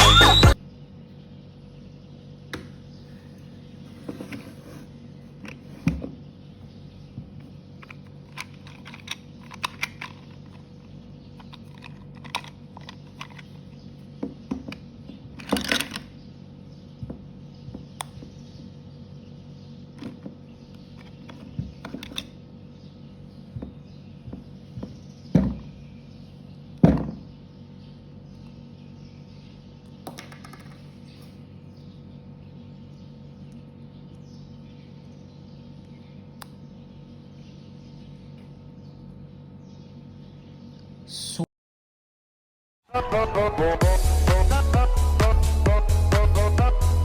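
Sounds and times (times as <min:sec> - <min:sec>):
steady background hum: 0:00.0 - 0:41.5.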